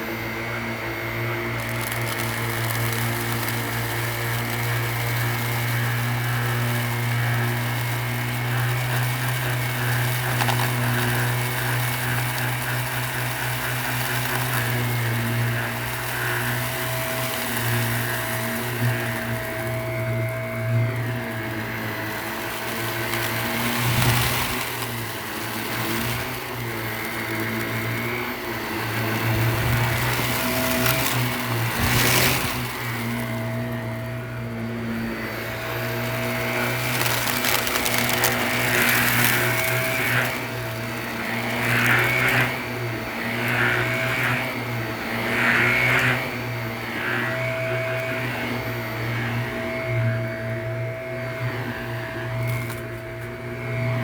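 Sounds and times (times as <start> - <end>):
vacuum cleaner on carpet: 0.0 - 54.0.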